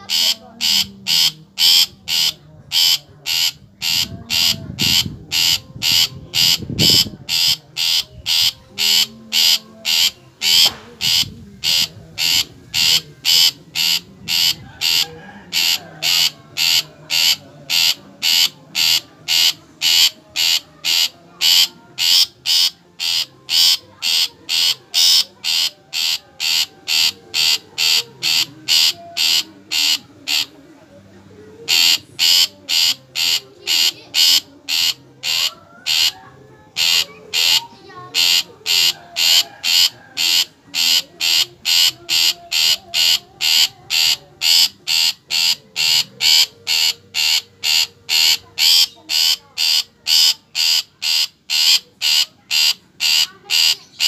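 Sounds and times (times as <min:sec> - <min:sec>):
bird harsh chattering calls: 0:00.0 - 0:30.5, 0:31.7 - 0:54.0.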